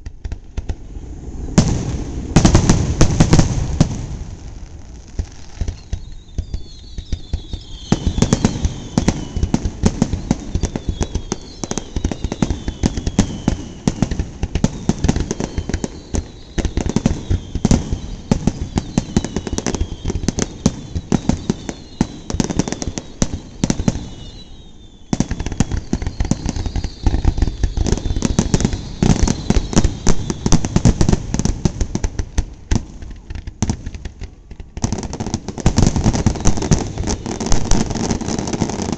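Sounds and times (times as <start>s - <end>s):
fireworks bangs and crackling pops: 0.0s - 38.9s
fireworks whistles falling in pitch: 0.8s - 32.1s, 34.8s - 38.9s.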